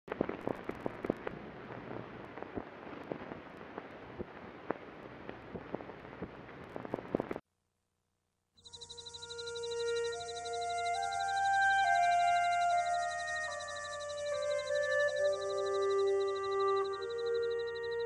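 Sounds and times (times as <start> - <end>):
hiss with crackles and pops: 0.1 - 7.4, 8.6 - 18.0.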